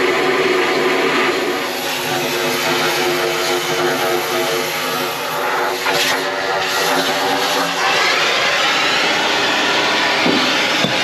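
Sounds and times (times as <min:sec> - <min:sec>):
cutting torch hissing: 0:00.0 - 0:11.0
engine drone: 0:00.0 - 0:11.0.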